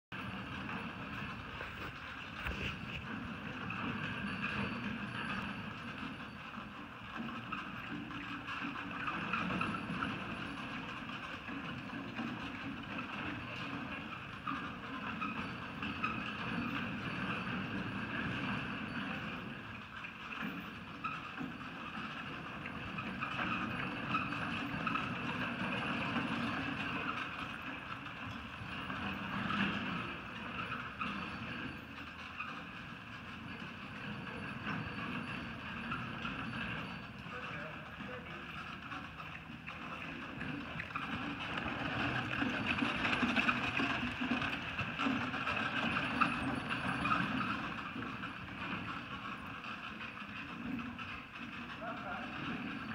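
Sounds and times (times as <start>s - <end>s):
carriage rolling on sand: 0.1s - 52.9s
hoofbeats: 0.1s - 52.9s.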